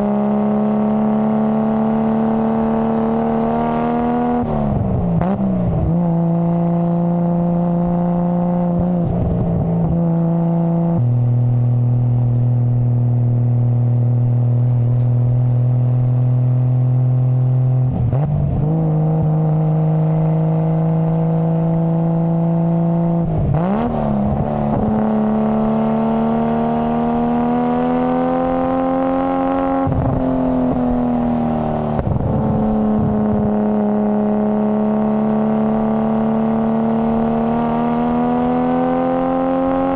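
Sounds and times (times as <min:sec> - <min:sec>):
car engine and exhaust running: 0:00.0 - 0:39.9.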